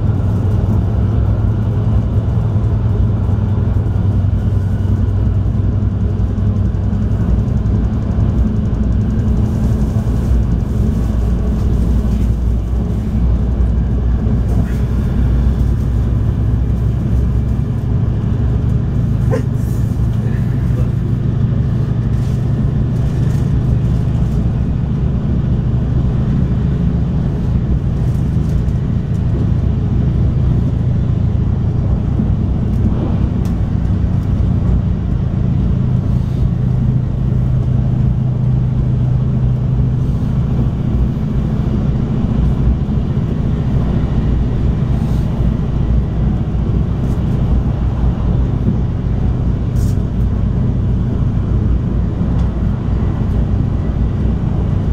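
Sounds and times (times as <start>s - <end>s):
railcar engine drone: 0.0s - 54.9s.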